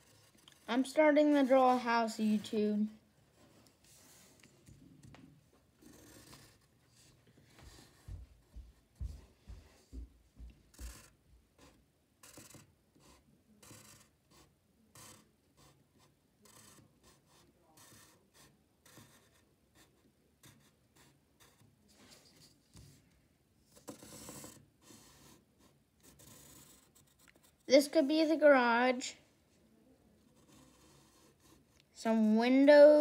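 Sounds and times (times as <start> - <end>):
pencil drawing on paper: 0.0 - 4.8, 5.8 - 10.0, 10.7 - 23.0, 23.7 - 29.0, 30.2 - 33.0.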